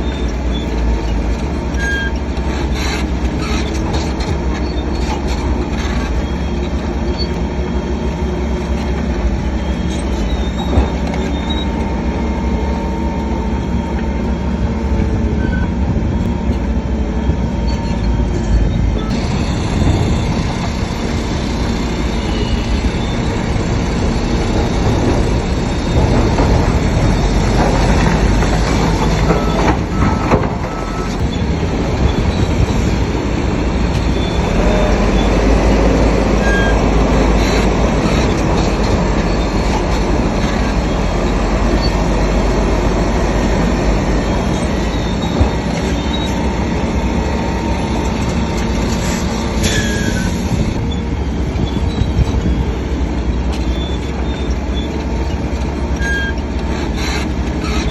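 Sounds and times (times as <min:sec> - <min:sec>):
bulldozer diesel engine running: 0:00.0 - 0:57.9
steel tracks clattering and squealing: 0:00.0 - 0:57.9.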